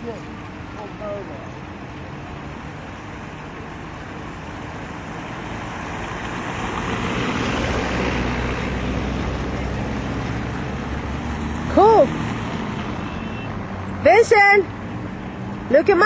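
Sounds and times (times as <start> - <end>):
passing vehicle engine rumble: 0.0 - 16.0.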